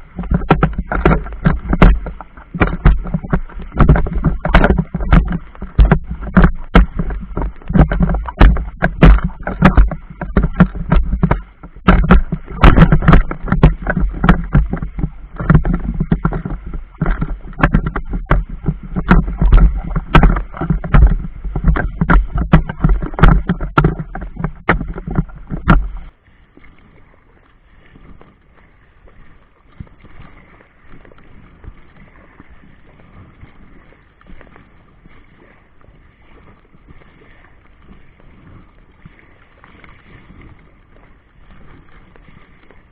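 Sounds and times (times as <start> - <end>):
boat hull slapping on waves: 0.0 - 42.9.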